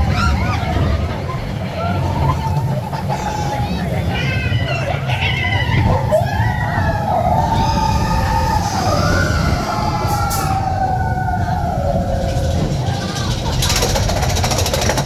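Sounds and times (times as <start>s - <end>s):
riders whooping: 0.0s - 15.0s
roller coaster rumbling on track: 0.0s - 15.0s.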